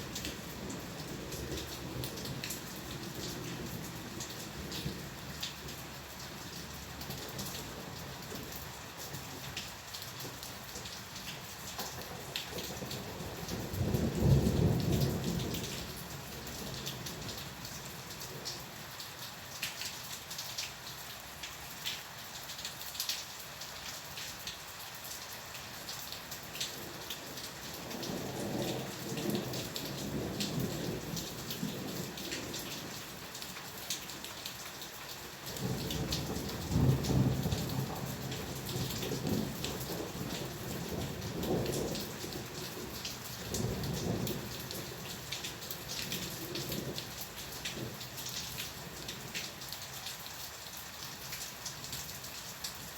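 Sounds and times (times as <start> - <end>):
steady rain hissing: 0.0 - 52.9.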